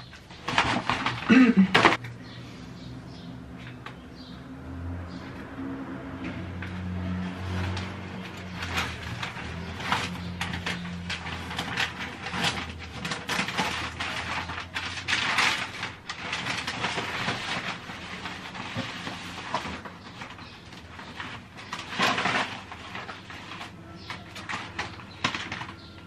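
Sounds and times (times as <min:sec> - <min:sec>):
adhesive film rustling and crackling: 0:00.0 - 0:02.0, 0:06.6 - 0:26.0.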